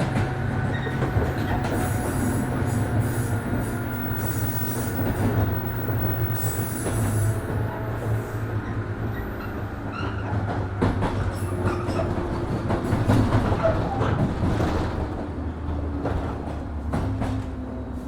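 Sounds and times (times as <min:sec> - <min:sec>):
train interior hum: 0:00.0 - 0:18.0.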